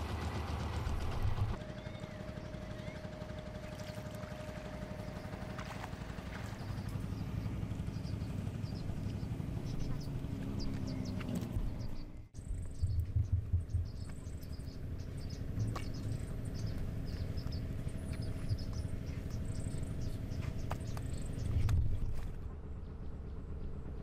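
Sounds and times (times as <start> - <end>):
low rumble: 3.4 - 24.0.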